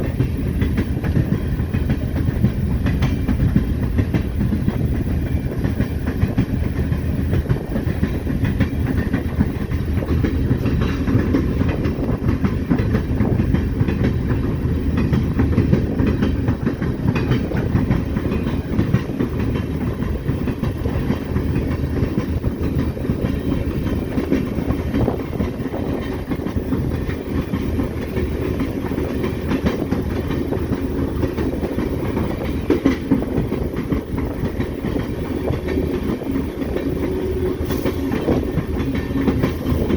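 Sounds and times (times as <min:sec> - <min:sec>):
diesel locomotive rumbling: 0:00.0 - 0:39.9
wheels clattering over rails: 0:00.0 - 0:39.9.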